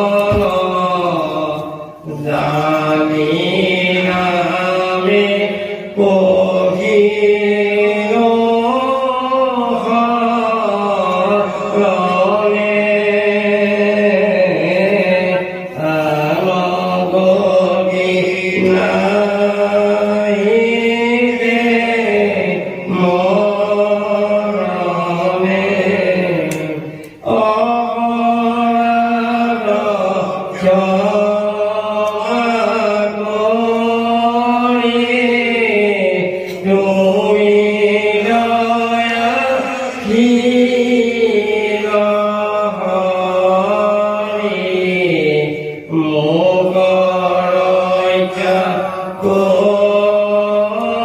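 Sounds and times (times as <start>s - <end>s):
man chanting verses: 0.0s - 51.0s.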